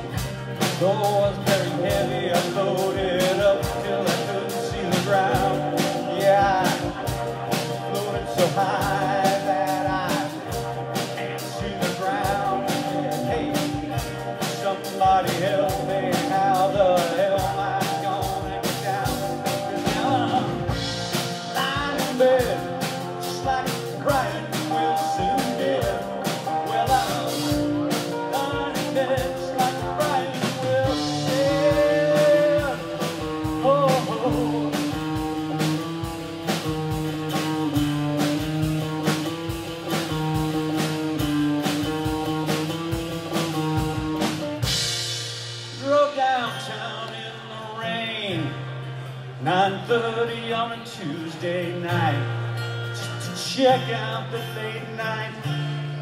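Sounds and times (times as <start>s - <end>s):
drum kit steady beat: 0.0s - 46.5s
acoustic guitar: 0.0s - 56.0s
electric guitar: 0.0s - 56.0s.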